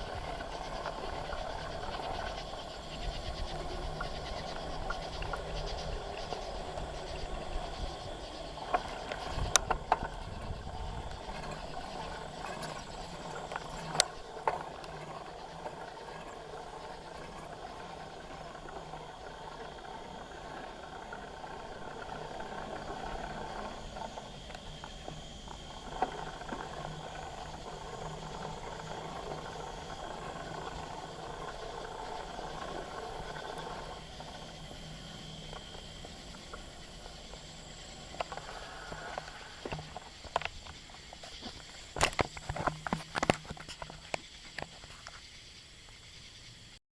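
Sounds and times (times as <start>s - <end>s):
bicycle tyres rolling: 0.0s - 46.6s
insect chirping: 0.0s - 46.8s.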